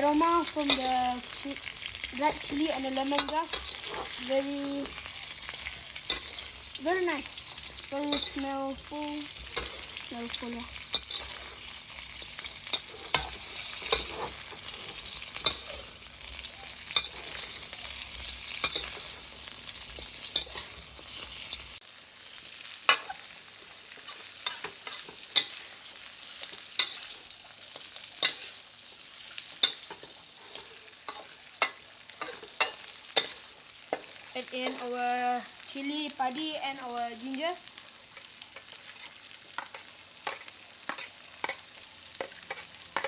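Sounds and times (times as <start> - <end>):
meat sizzling in a pan: 0.0 - 43.0
spatula scraping a pan: 2.4 - 8.6, 9.3 - 16.0, 16.8 - 21.8, 22.8 - 34.9, 37.8 - 43.0.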